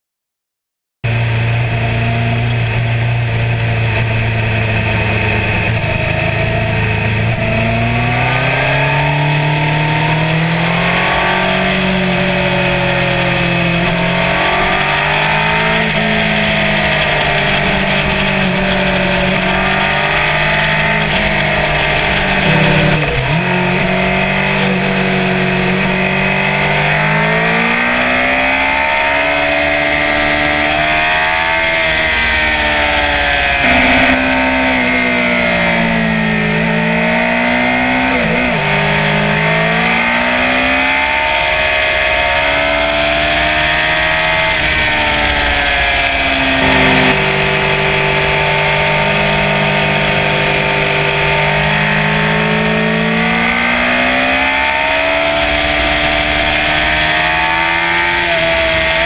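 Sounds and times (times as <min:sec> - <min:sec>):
motorcycle engine revving: 0:01.0 - 0:59.0.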